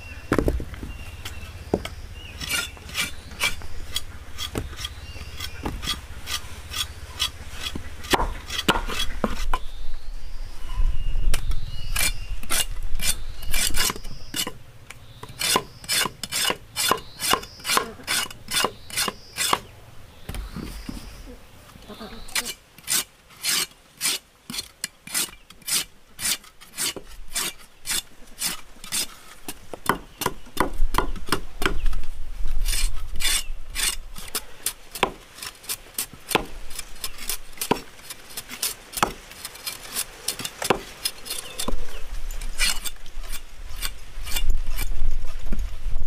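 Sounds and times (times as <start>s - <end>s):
machete scraping roots: 0.3s - 9.7s, 11.4s - 14.6s, 15.2s - 19.7s, 22.2s - 30.4s, 31.0s - 45.6s.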